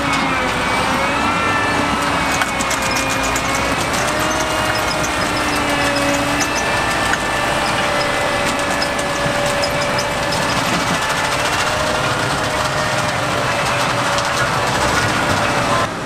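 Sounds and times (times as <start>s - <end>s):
diesel engine whine: 0.0s - 16.0s.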